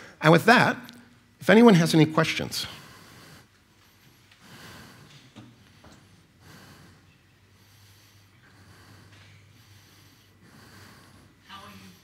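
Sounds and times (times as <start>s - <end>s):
breaths close to microphone: 0.0s - 0.2s, 2.4s - 12.0s
low room hum: 0.0s - 12.0s.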